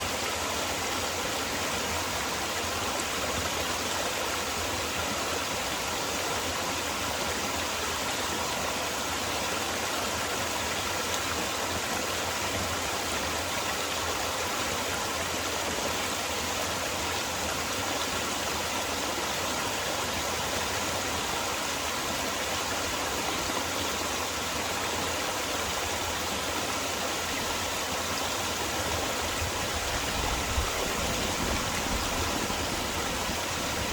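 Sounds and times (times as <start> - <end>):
stream flowing over rocks: 0.0 - 33.9.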